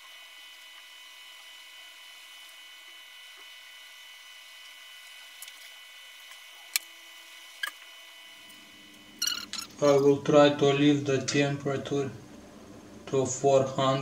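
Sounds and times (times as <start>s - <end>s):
faint electrical whine: 0.0s - 14.0s.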